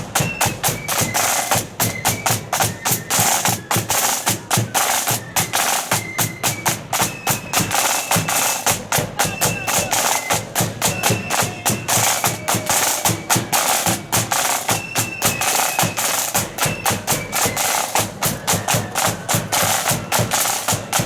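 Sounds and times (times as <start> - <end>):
faint flute melody: 0.0 - 21.0
snare and bass drums marching: 0.0 - 21.0.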